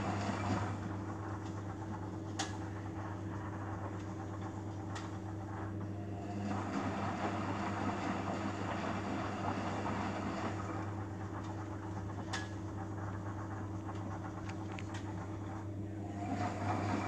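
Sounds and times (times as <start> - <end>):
washing machine motor humming: 0.0 - 17.0.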